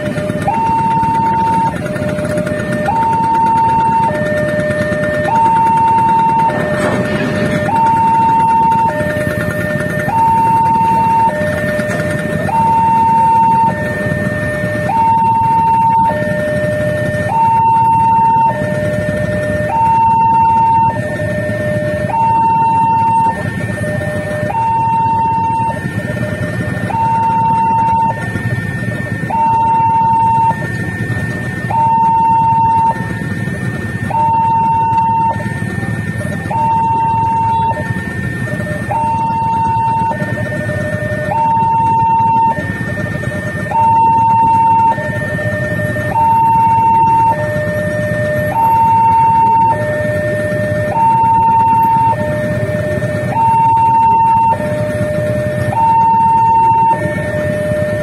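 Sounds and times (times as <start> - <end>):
idling engines rumble: 0.0 - 58.0
level crossing two-tone alarm: 0.0 - 58.0.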